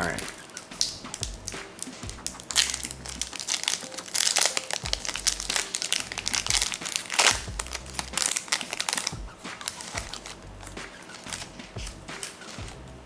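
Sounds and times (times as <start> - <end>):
foil wrapper tearing and crinkling: 0.0 - 11.6.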